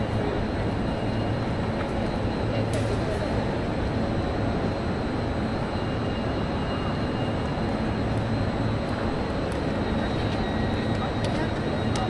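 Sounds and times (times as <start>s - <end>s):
faint high whine: 0.0s - 12.0s
rumble and hum of trains: 0.0s - 12.0s.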